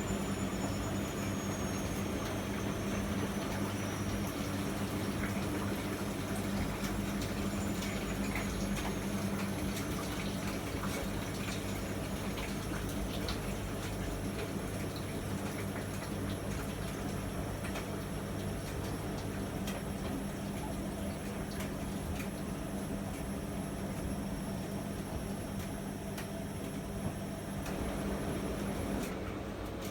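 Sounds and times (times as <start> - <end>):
washing machine low hum: 0.0 - 29.9
water rushing into washing machine: 0.0 - 29.9.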